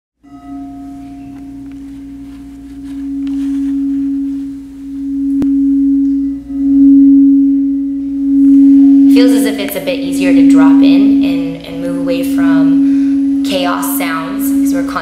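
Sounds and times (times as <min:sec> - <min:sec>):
singing bowl low tone: 0:00.2 - 0:15.0.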